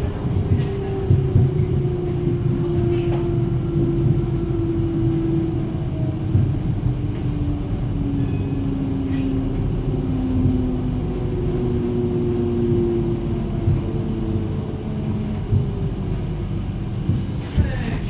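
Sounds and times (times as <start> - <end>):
tram motor hum: 0.0 - 18.0
tram wheels rumbling on rail: 0.0 - 18.0.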